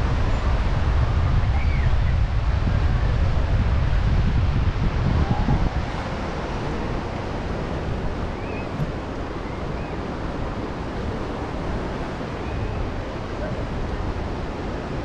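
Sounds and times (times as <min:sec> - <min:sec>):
wind: 0:00.0 - 0:15.0
wind buffeting microphone: 0:00.0 - 0:15.0
sea waves washing: 0:02.2 - 0:15.0.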